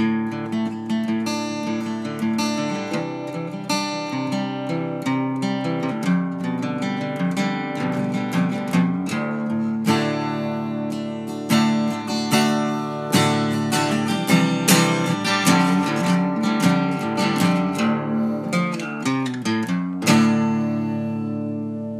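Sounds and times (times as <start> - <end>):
acoustic guitar picking and strumming: 0.0 - 21.9.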